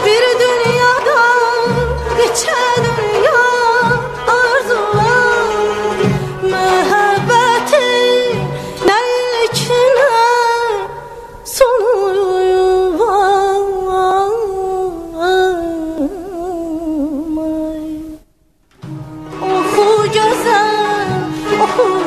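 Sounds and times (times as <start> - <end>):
woman singing with trills: 0.0 - 18.2, 19.3 - 22.0.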